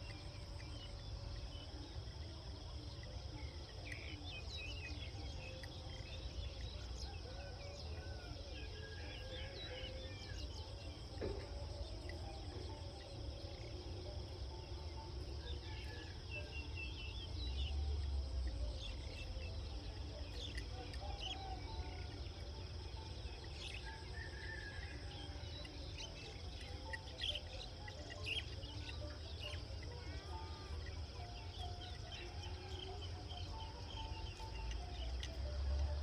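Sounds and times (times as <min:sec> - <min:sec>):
insects chirring: 0:00.0 - 0:36.0
bird chirps: 0:02.8 - 0:36.0.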